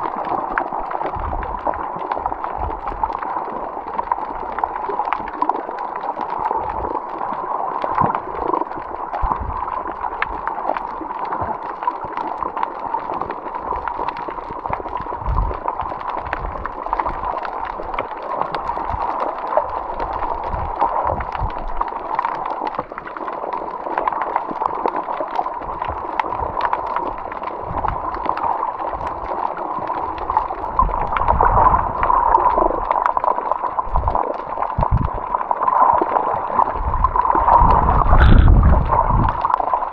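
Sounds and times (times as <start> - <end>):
steady crackle: 0.0 - 39.9
water gurgling and sloshing: 0.0 - 39.9.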